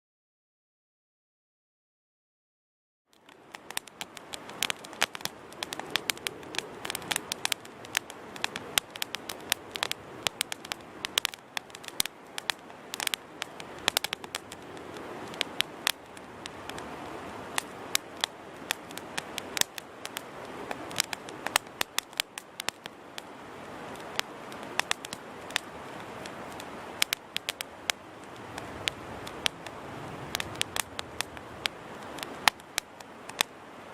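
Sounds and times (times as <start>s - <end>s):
burning wood crackling: 3.1s - 33.9s
campfire flames hissing: 3.2s - 33.9s.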